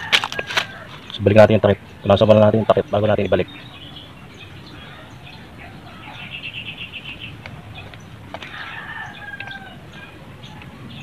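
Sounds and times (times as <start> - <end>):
small bird chirping: 0.7 - 11.0.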